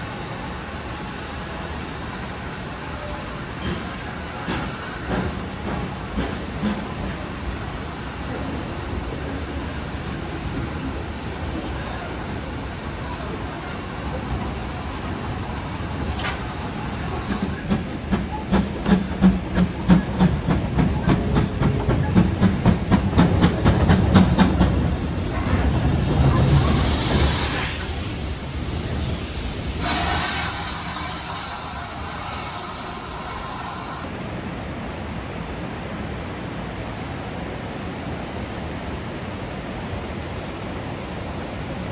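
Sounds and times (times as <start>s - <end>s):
steam hissing: 0.0s - 34.1s
steam train rumbling: 0.0s - 36.8s.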